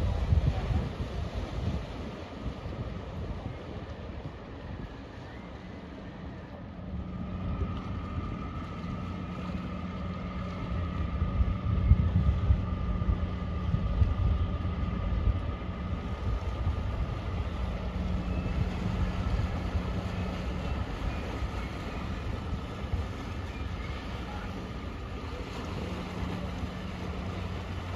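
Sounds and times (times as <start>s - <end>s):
ship diesel engines rumbling: 0.0s - 27.9s.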